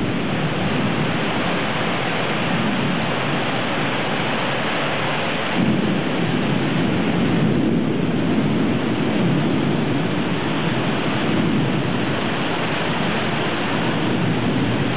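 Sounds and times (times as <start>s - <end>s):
heavy rain pouring: 0.0s - 14.9s
thunder rumbling: 0.0s - 14.9s.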